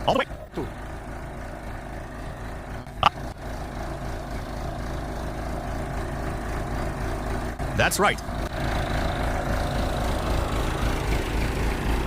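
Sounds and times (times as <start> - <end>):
backhoe engine running: 0.0 - 12.0.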